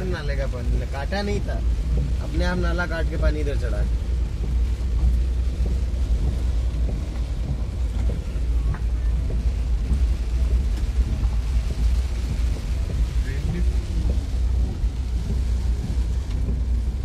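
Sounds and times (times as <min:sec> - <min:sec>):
car engine rumble from inside: 0:00.0 - 0:17.0
heavy rain beating on a car: 0:00.0 - 0:17.0.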